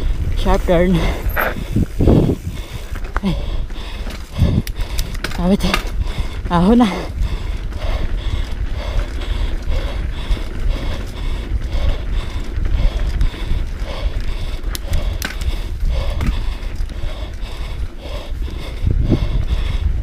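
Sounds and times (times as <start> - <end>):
person breathing hard: 0.0 - 5.3, 5.9 - 20.0
sharp clacks over bumps: 0.0 - 19.5
bike chain and frame rattling: 0.0 - 19.7
wind and tyres on dirt: 0.0 - 20.0.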